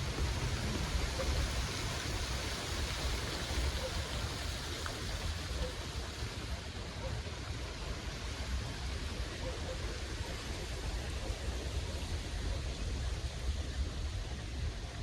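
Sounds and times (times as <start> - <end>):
low rumbling wind: 0.0 - 15.0.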